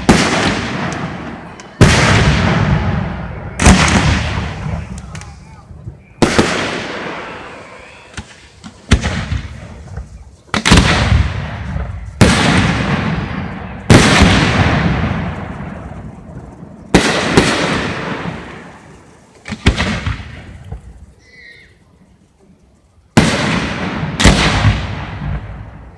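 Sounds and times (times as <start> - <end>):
fireworks bursting with echo: 0.0 - 21.2, 23.1 - 25.9.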